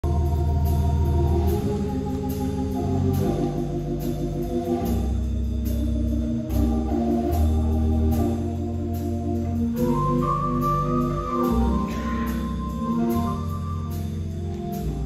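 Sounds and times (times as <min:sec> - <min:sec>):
organ playing sustained chords: 0:00.0 - 0:15.0.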